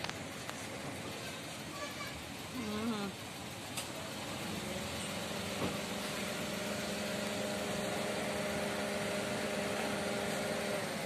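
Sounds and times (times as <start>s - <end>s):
steady mechanical hum: 0.0s - 11.0s
street background noise: 0.0s - 11.0s.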